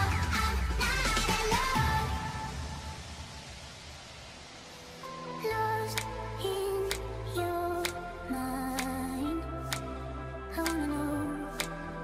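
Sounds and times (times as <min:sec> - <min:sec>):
background music: 0:00.0 - 0:12.0
faint steady hiss: 0:01.6 - 0:11.8.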